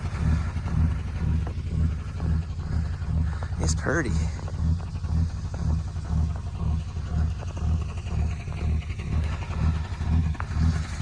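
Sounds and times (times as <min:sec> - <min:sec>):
engine idling with low rumble: 0:00.0 - 0:11.0.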